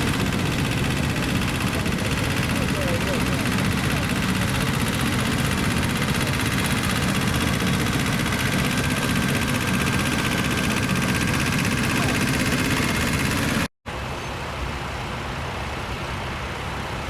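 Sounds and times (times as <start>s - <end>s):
tractor engine running: 0.0s - 13.7s.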